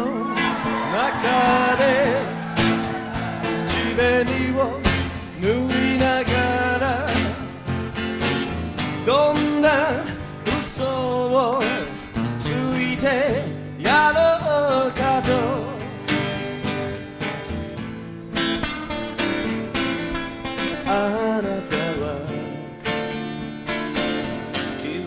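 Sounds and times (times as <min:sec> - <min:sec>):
lead guitar with bent notes: 0:00.0 - 0:24.8
strummed guitar chords: 0:00.0 - 0:25.0.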